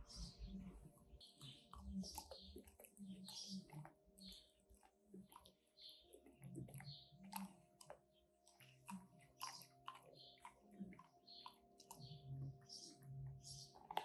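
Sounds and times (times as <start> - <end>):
dog crunching ice cubes: 1.4 - 14.0.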